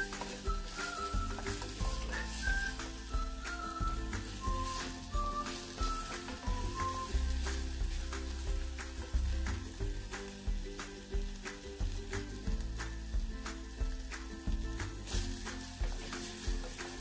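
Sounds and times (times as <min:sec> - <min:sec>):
background music: 0:00.0 - 0:17.0
onion sizzling in hot oil: 0:00.0 - 0:17.0.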